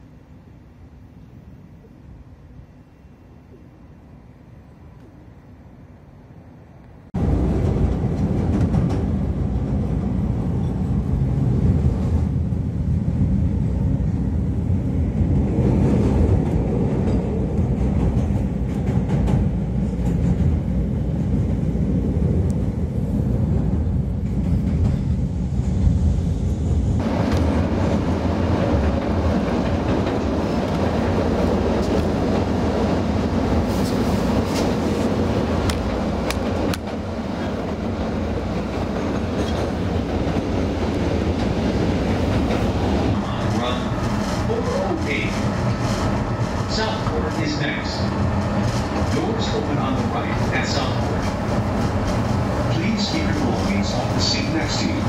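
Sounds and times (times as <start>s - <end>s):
train wheels rumbling on rail: 6.8s - 55.0s.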